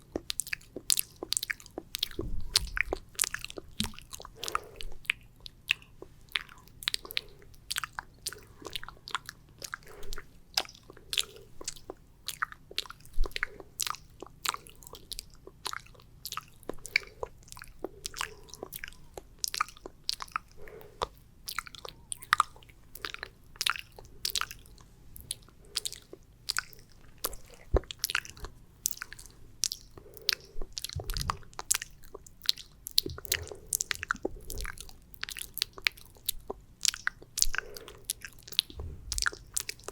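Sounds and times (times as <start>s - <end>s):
wet saliva clicks and smacks: 0.1s - 39.9s.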